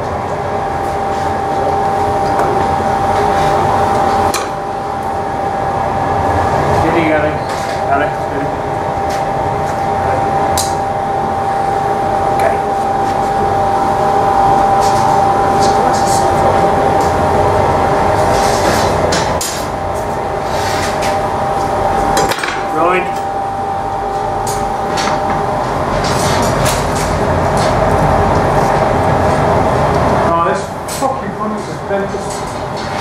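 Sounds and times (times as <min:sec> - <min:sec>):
faint steady whine: 0:00.0 - 0:32.9
furnace burners and blowers: 0:00.0 - 0:33.0.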